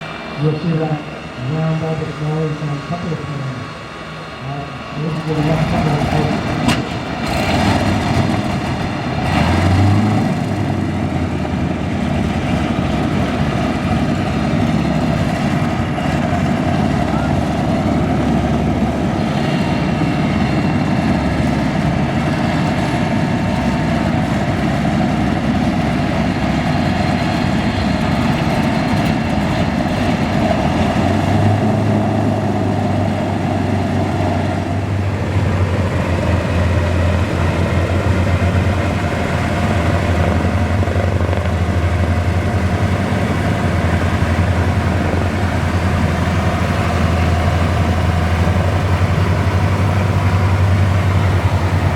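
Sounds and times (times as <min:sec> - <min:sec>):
aircraft engines idling: 0:00.0 - 0:51.9.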